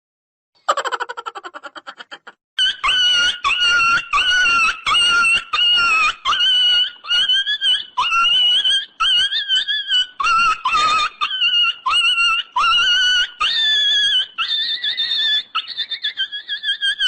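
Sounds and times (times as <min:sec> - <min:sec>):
high-pitched animal-like calls: 0:02.6 - 0:17.0.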